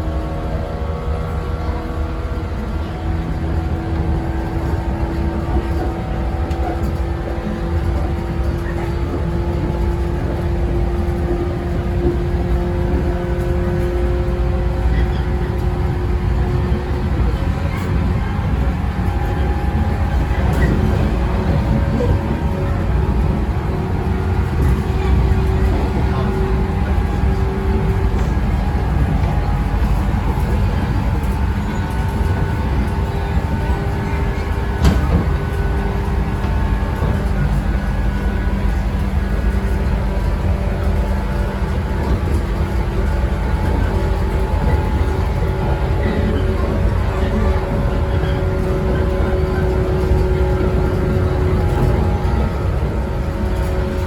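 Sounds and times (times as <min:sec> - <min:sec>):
steady train whine: 0:00.0 - 0:54.0
train wheels rumbling on track: 0:00.0 - 0:54.0.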